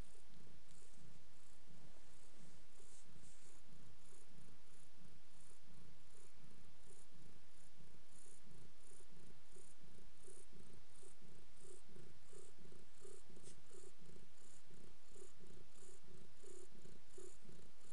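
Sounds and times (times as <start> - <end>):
cat purring: 0.0 - 17.9.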